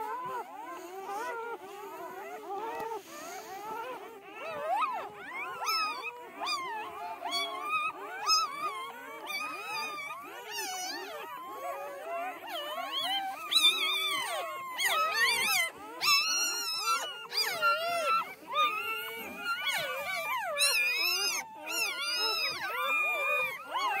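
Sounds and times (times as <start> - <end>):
puppies whining and squealing: 0.0 - 24.0.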